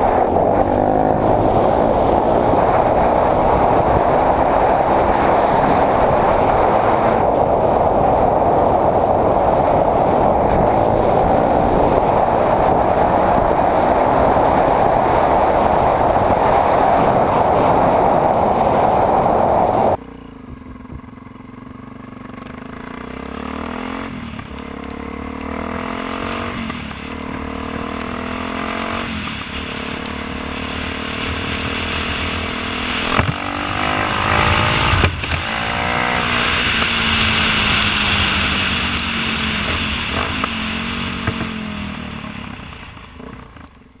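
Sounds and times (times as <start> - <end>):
wind rush on microphone: 0.0 - 20.0, 23.6 - 44.0
motorcycle engine accelerating: 0.0 - 44.0.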